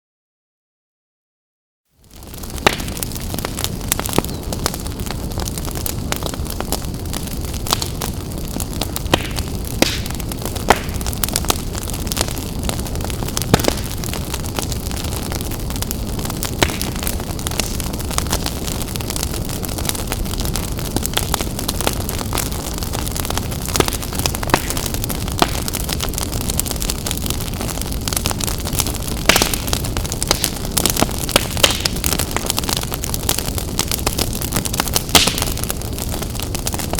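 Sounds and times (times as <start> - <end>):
fire burning in fireplace: 1.9 - 36.9
fire crackles and pops: 1.9 - 36.9.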